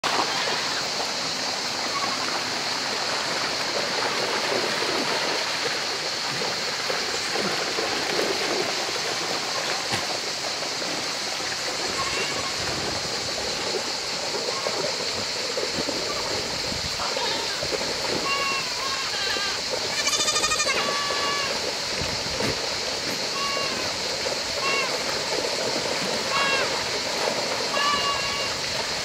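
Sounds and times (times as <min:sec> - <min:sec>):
goats splashing through water: 0:00.0 - 0:29.0
river rushing over stones: 0:00.0 - 0:29.0.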